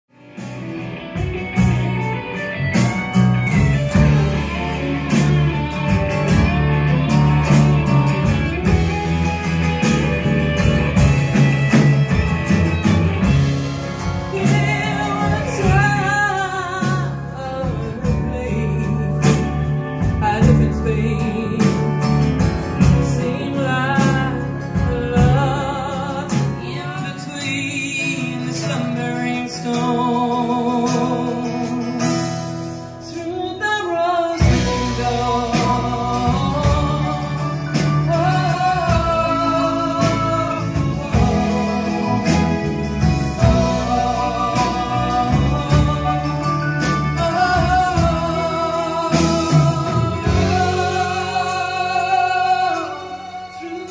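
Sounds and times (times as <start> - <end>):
live band playing: 0.0 - 53.9
drum kit beat: 0.1 - 33.3, 34.4 - 53.9
woman singing lead: 0.6 - 53.9.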